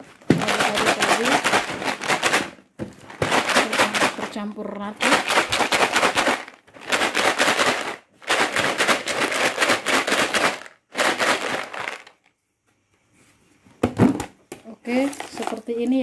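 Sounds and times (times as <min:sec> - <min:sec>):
crackers rattling in plastic tub: 0:00.0 - 0:12.2, 0:14.8 - 0:16.0.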